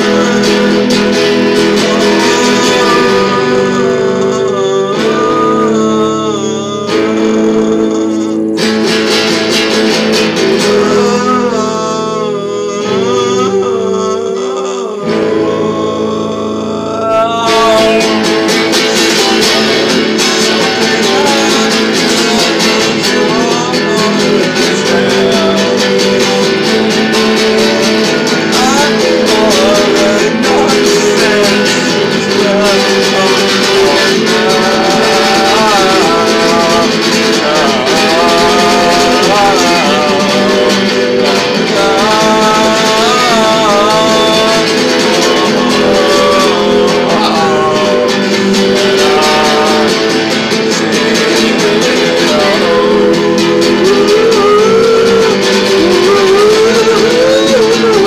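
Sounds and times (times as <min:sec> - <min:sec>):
guitar chords: 0:00.0 - 0:58.0
man singing: 0:00.0 - 0:58.0.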